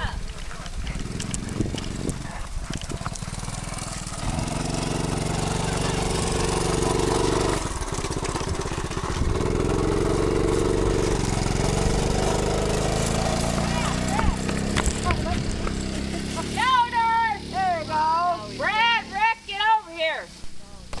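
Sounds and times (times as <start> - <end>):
dirt bike engine running: 0.0 - 19.8.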